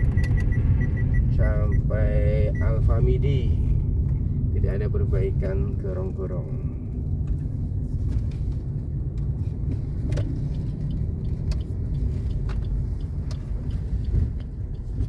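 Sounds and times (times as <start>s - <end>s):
vehicle rumbling along road: 0.0s - 15.0s.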